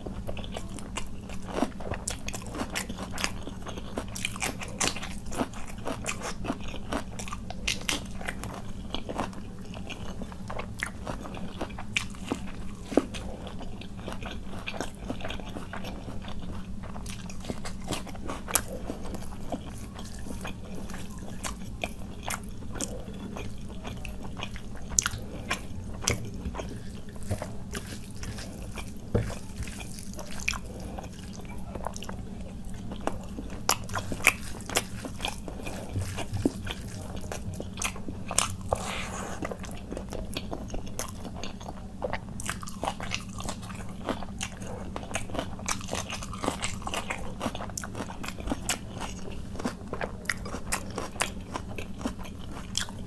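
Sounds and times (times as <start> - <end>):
person chewing wetly: 0.0 - 53.0
steady low hum: 0.0 - 53.0.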